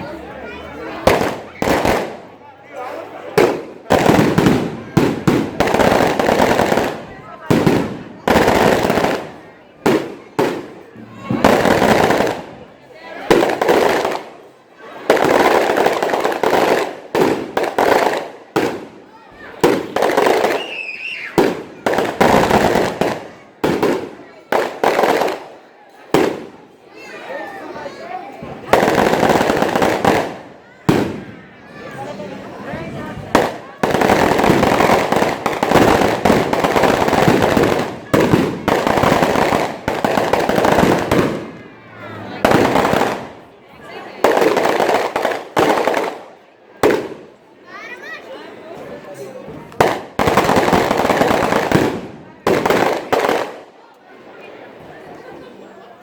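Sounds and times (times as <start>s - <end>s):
firecrackers crackling: 0.1s - 48.2s, 49.1s - 54.1s.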